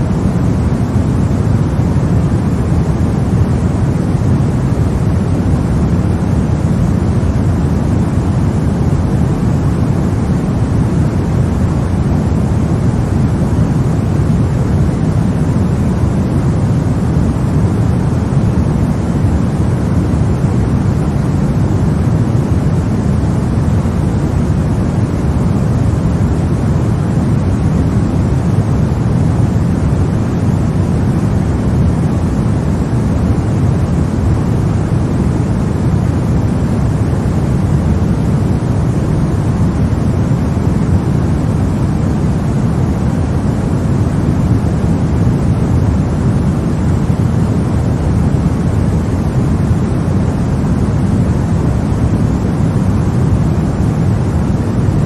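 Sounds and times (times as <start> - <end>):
deep soft white noise hiss: 0.0 - 55.0.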